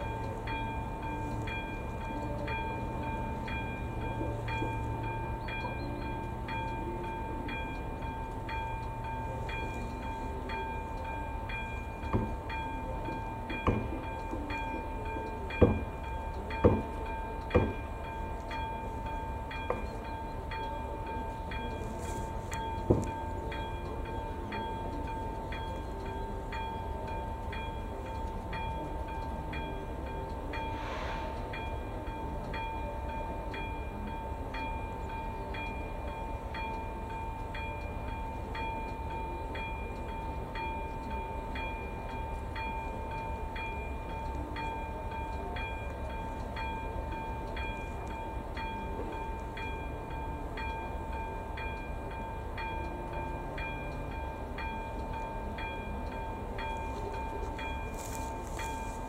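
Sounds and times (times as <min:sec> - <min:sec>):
level crossing warning bell: 0:00.0 - 0:59.0.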